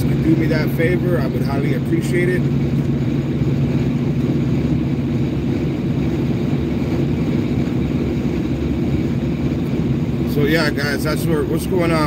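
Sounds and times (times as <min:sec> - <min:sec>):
engine and road noise drone: 0:00.0 - 0:12.0
held hum tones: 0:00.0 - 0:12.0.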